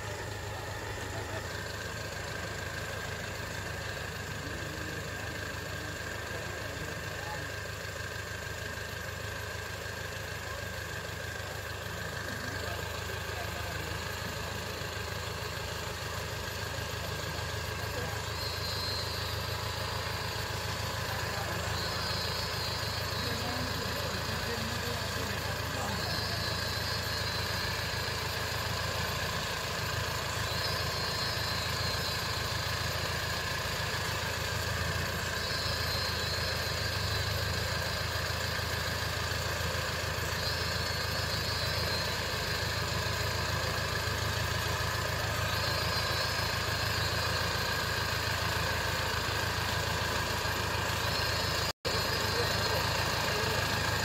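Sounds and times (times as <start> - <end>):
engine idling at low revs: 0.0 - 54.0.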